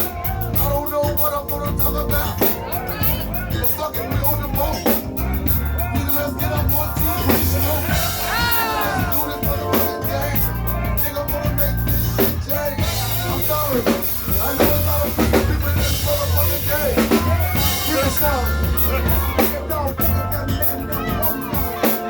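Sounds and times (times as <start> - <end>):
live band music: 0.0 - 22.0.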